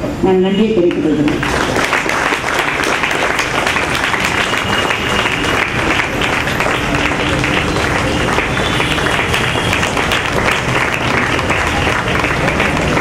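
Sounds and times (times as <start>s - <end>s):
audience applauding: 1.2s - 13.0s.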